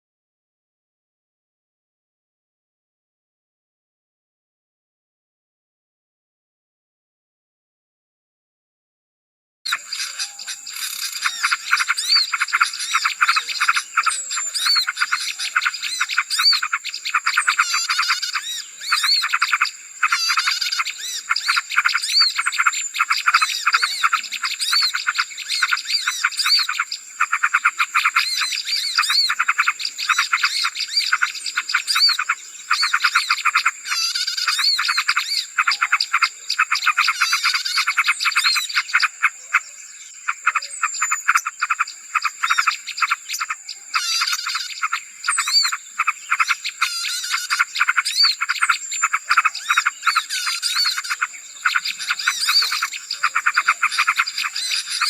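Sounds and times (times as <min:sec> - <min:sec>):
songbirds chirping and trilling: 0:09.7 - 0:55.0.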